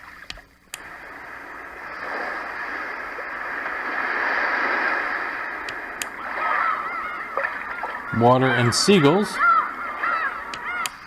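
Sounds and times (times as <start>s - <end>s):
water noise from small speaker: 0.0s - 11.0s.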